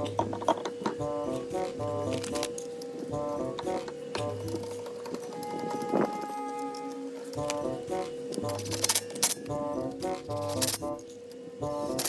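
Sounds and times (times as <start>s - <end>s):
melody over steady tone: 1.0s - 8.7s, 9.4s - 12.0s.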